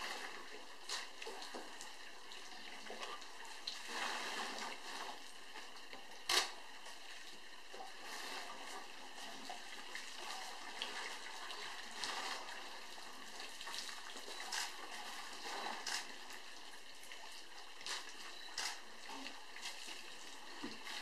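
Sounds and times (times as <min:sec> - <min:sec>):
water splashing and trickling: 0:00.0 - 0:21.0.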